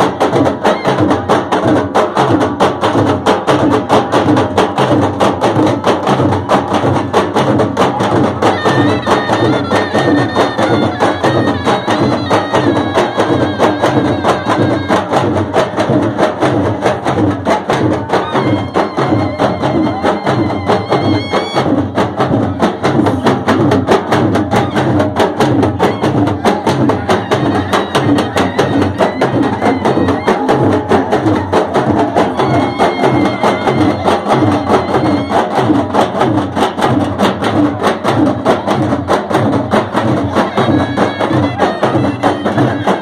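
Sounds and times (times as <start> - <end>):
drum music with barrel drum: 0.0 - 43.0.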